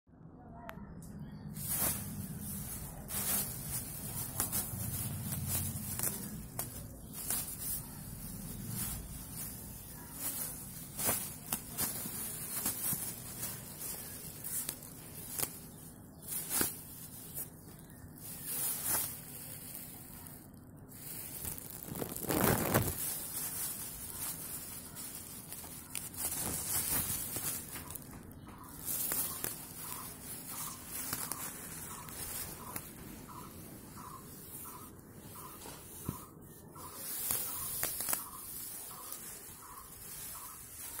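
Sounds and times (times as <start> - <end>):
plastic bag crinkling: 1.4 - 41.0.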